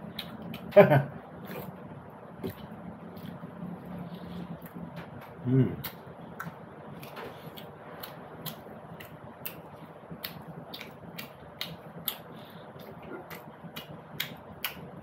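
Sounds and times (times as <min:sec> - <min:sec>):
person chewing food: 0:01.3 - 0:01.8, 0:02.4 - 0:14.8.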